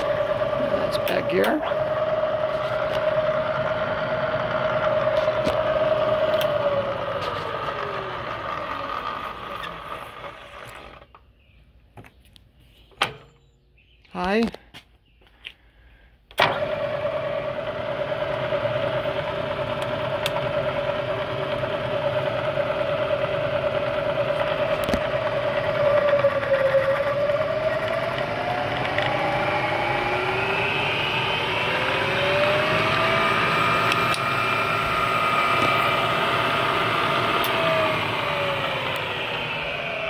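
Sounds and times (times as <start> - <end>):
milling machine motor whining: 0.0 - 11.2, 16.4 - 40.0.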